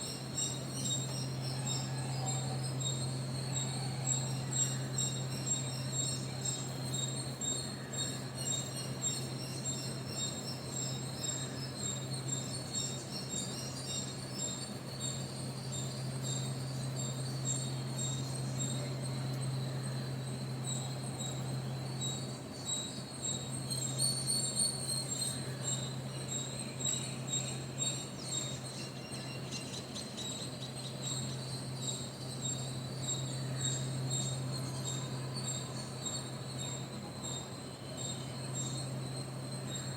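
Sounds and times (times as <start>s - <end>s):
insects trilling: 0.0s - 39.9s
steady low hum: 0.0s - 39.9s.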